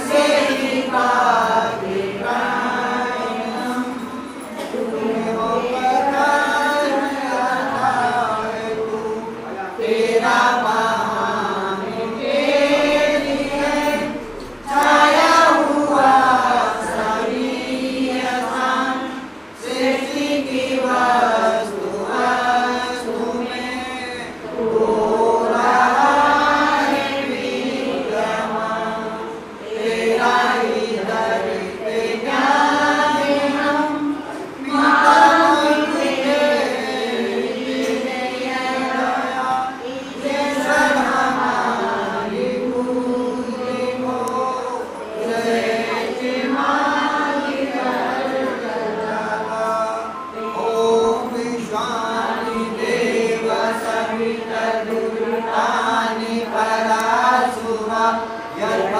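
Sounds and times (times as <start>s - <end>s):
voices chanting together: 0.0s - 58.9s.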